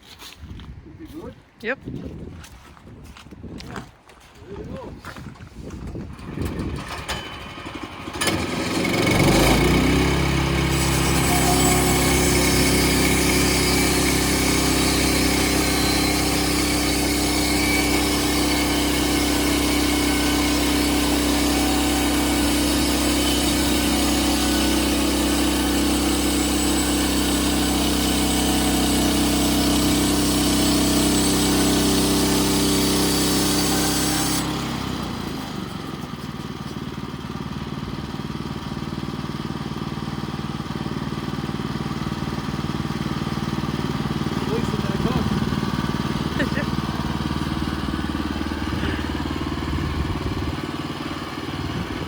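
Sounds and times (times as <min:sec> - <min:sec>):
sawmill engine running: 0:05.9 - 0:52.0
band saw cutting log: 0:06.4 - 0:52.0.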